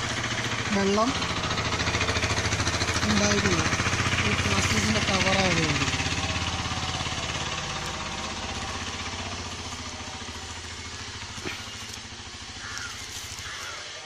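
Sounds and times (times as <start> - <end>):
engine pulsing: 0.0 - 14.0.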